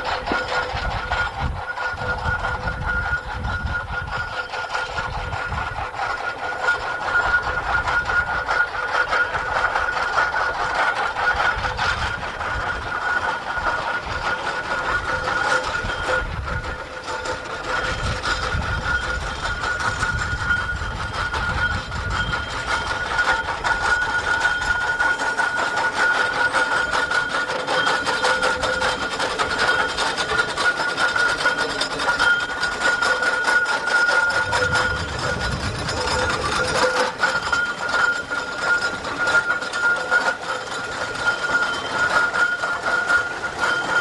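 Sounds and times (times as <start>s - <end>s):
machinery clanking: 0.0s - 44.0s
steam engine exhaust beating: 0.0s - 44.0s.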